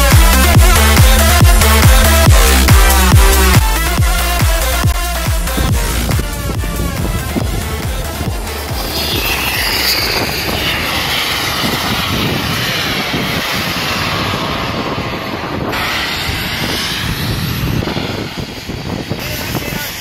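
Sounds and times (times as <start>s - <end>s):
model jet aircraft whining overhead: 0.0s - 20.0s.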